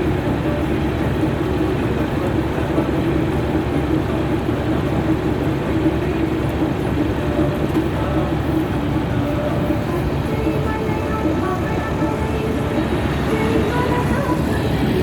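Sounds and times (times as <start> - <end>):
harvesting machine engine running: 0.0 - 15.0.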